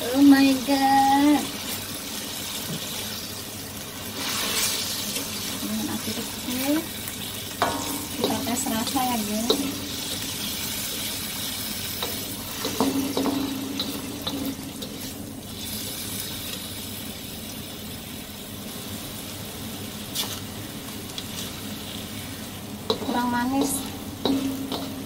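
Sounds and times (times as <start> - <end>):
food bubbling and sizzling in a wok: 0.0 - 25.0.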